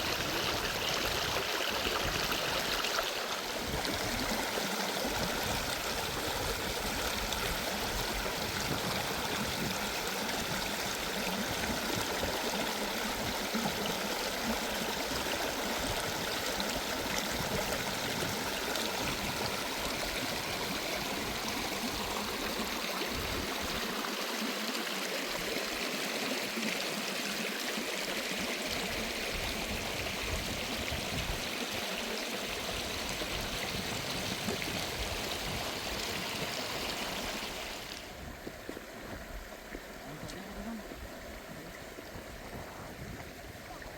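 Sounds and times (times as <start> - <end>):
stream water flowing: 0.0 - 43.9.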